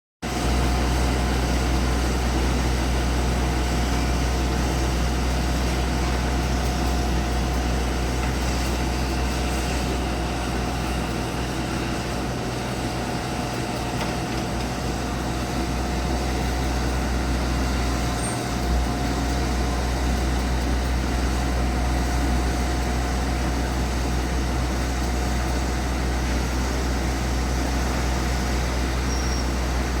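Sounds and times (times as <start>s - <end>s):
excavator diesel engine rumble: 0.3s - 30.0s.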